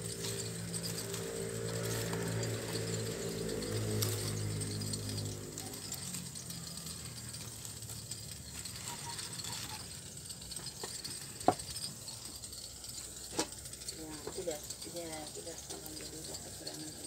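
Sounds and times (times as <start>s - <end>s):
fire hissing: 0.0s - 17.0s
firewood crackling and popping: 0.0s - 17.0s.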